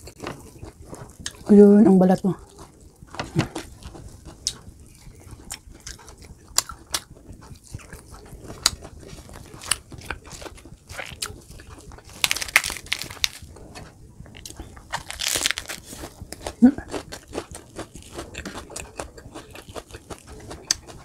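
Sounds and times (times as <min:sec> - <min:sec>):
wet chewing and mouth clicks: 0:00.0 - 0:21.0.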